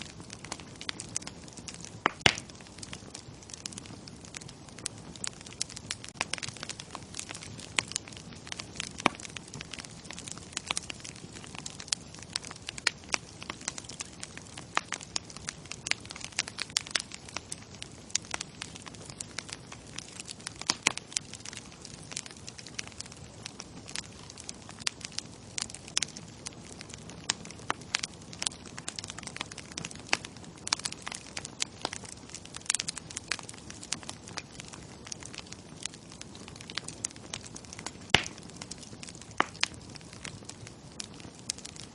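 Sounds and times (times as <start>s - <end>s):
burning wood popping and snapping: 0.0s - 41.9s.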